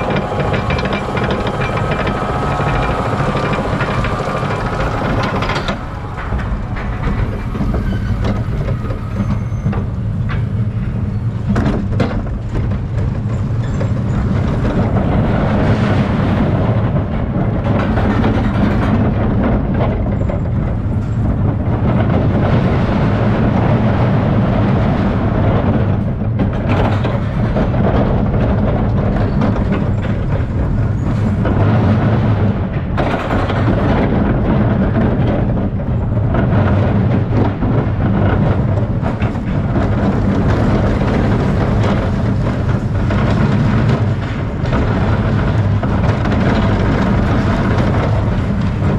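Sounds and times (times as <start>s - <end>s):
roller coaster wheels rumbling: 0.0s - 48.9s
sharp clacks and jolts: 0.0s - 48.9s.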